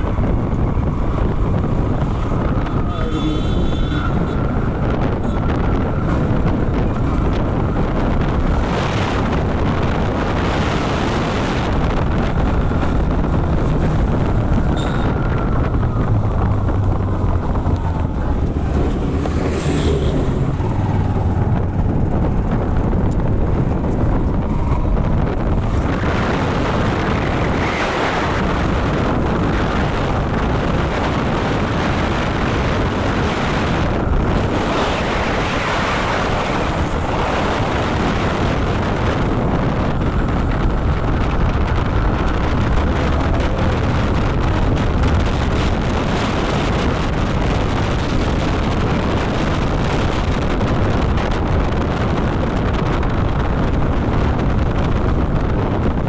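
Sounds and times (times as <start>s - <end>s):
motorcycle engine hum: 0.0s - 56.0s
road noise: 0.0s - 56.0s
wind rushing over microphone: 0.0s - 56.0s.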